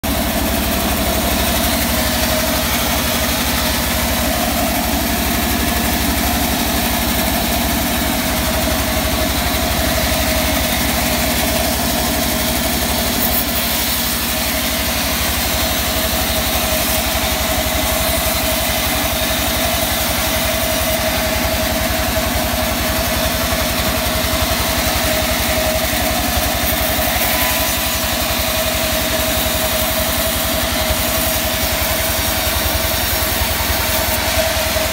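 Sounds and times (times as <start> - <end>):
band sawmill running: 0.0 - 34.9.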